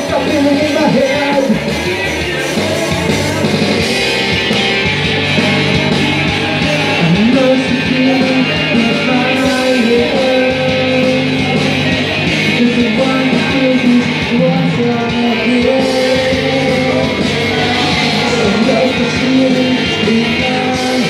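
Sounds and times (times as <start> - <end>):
rock backing track with guitar: 0.0 - 21.0
person singing long notes: 1.2 - 21.0.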